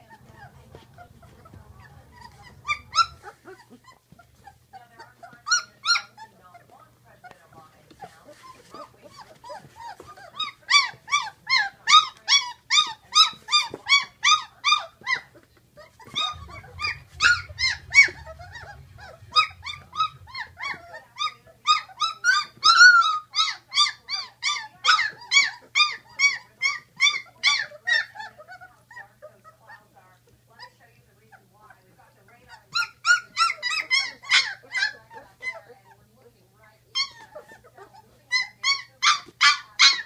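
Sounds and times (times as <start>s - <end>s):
puppies whining and crying: 0.0s - 30.8s, 32.4s - 36.2s, 36.9s - 40.0s.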